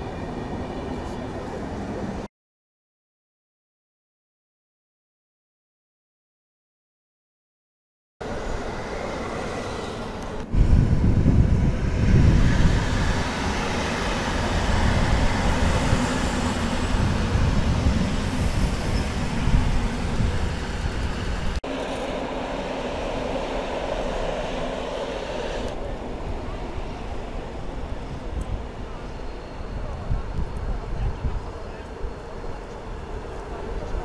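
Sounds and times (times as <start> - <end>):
train rumbling on rails: 0.0 - 2.3, 8.2 - 34.0.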